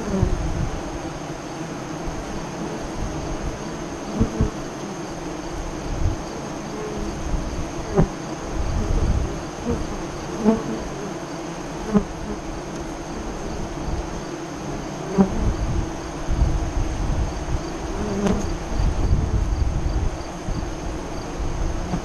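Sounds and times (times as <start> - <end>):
bees buzzing: 0.0 - 22.0
bees flying close past: 0.0 - 22.0.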